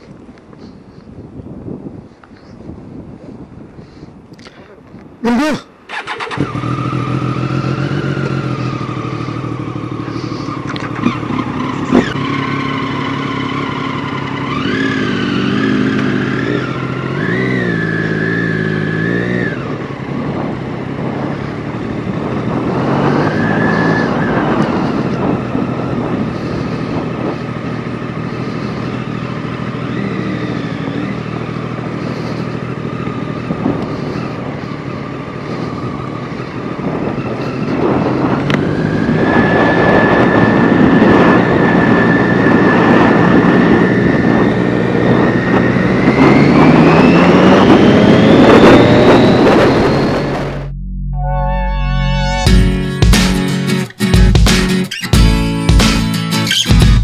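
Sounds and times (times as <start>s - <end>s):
motorcycle engine revving: 5.9s - 51.0s, 52.2s - 57.0s.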